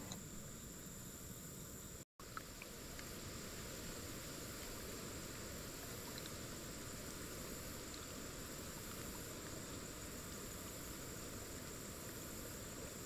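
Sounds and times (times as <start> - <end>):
running river water: 2.2 - 13.0.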